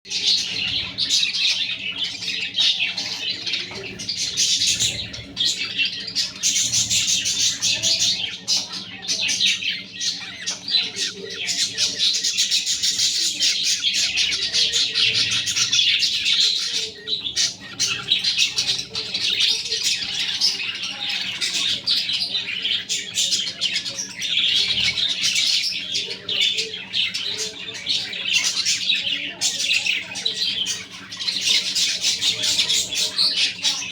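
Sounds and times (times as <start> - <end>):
budgerigars chattering and chirping: 0.1 - 33.9.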